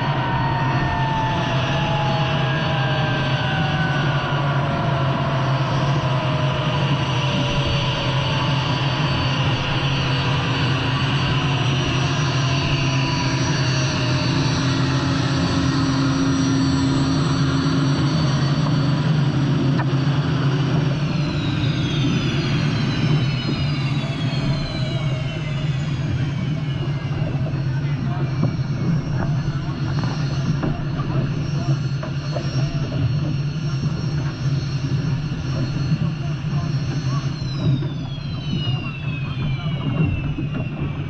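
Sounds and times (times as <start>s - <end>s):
turbine engine drone and whine: 0.0s - 41.0s.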